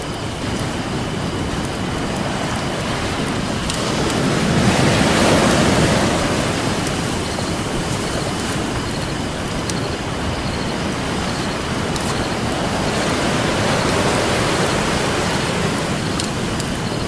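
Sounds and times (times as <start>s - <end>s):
faint campfire crackles: 0.0s - 17.0s
ocean surf washing on beach: 0.0s - 17.0s.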